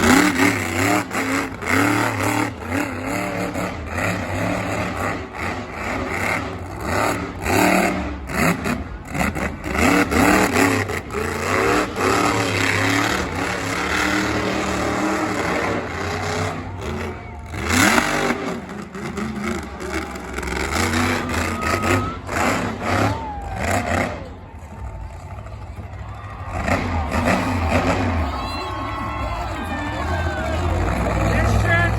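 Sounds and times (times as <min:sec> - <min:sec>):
heavy vehicle engine revving: 0:00.0 - 0:31.9.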